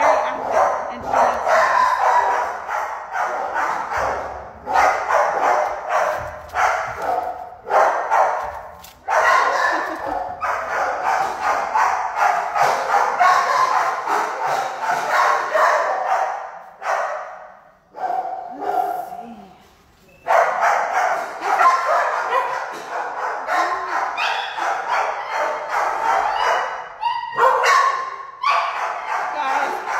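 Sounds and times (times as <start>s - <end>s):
dogs barking: 0.0s - 19.4s, 20.2s - 29.9s.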